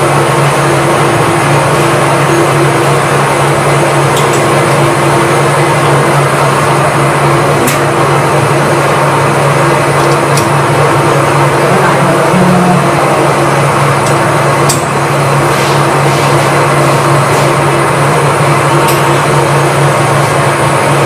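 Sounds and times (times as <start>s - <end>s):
workshop machinery humming: 0.0s - 21.0s.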